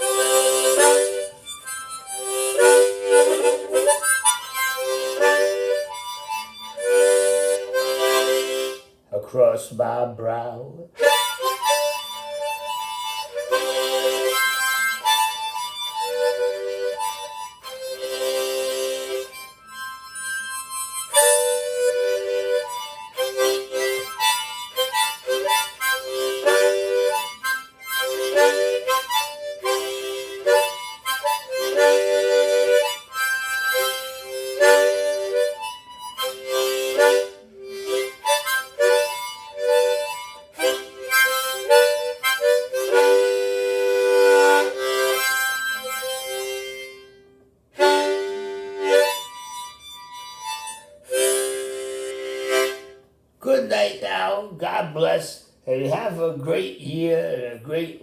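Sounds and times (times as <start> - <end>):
harmonica playing: 0.0 - 58.0.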